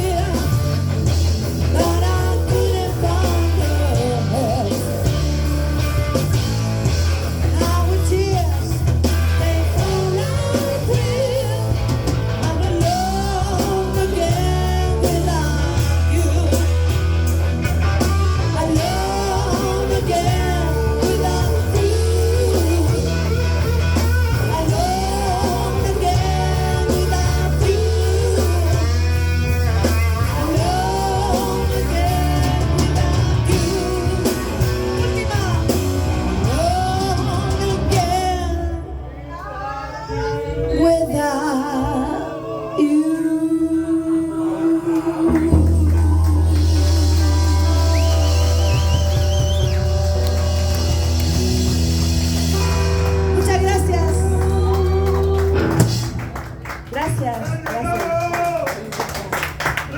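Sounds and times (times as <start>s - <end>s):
person singing: 0.0s - 5.5s, 7.3s - 50.7s, 52.5s - 56.1s
rock band playing: 0.0s - 42.2s, 43.2s - 59.9s
bass line: 0.0s - 59.9s.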